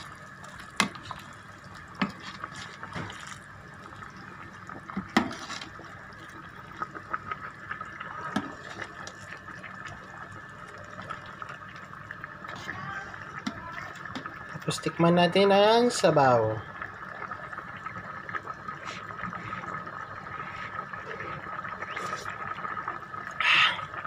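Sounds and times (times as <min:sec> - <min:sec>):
soup simmering and sloshing: 0:00.0 - 0:24.0.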